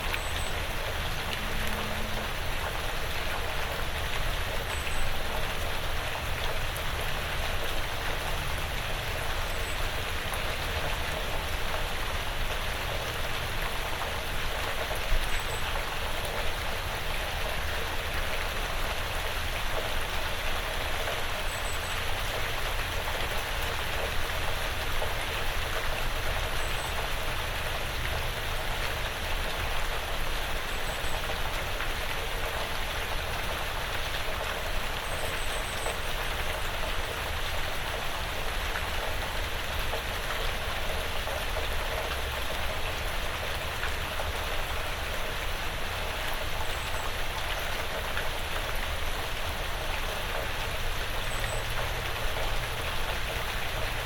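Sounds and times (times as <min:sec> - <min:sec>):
rain falling through woods: 0:00.0 - 0:54.0
rain pattering on a porch roof: 0:00.0 - 0:54.0.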